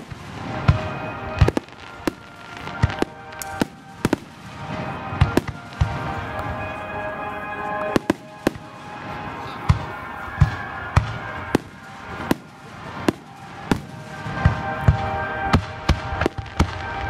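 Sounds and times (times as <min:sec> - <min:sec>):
fireworks booming: 0:00.0 - 0:07.0, 0:07.9 - 0:17.0
music playing: 0:00.0 - 0:17.0.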